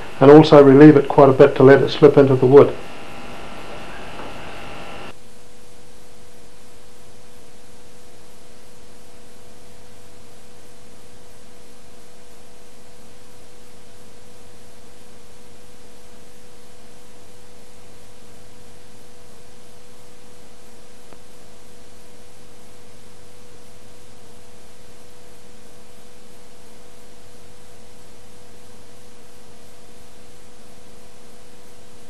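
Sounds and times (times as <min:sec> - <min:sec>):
electrical hum: 0:00.0 - 0:32.0
steady hiss: 0:00.0 - 0:32.0.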